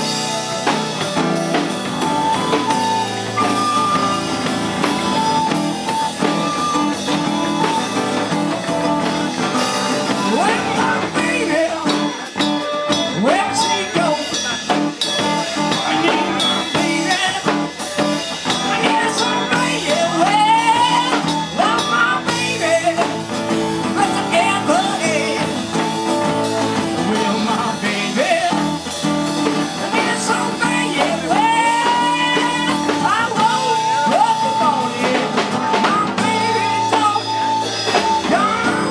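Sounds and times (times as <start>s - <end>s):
live band playing: 0.0s - 38.9s
man singing: 0.0s - 38.9s.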